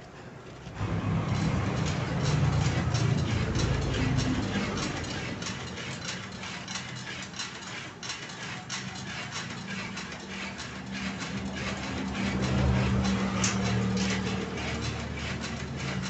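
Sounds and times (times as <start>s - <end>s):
mechanism clicking and clattering: 0.4s - 16.0s.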